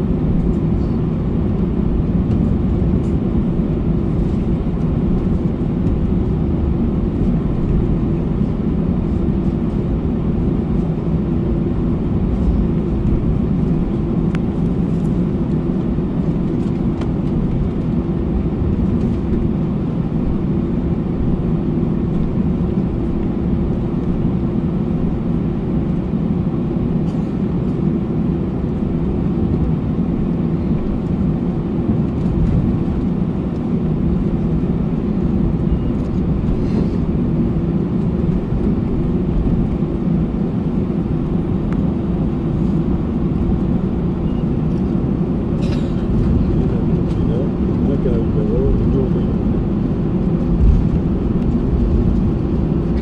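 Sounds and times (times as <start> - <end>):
airliner taxiing rumble: 0.0 - 53.0
jet engines droning in cabin: 0.0 - 53.0.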